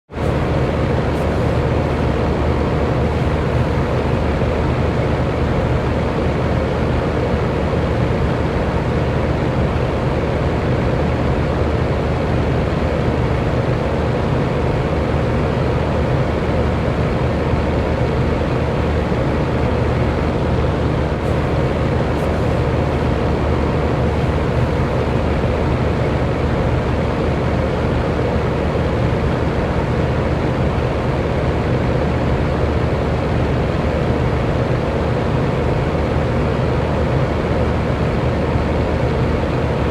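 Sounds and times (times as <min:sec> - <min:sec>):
electric fan running: 0:00.1 - 0:39.9.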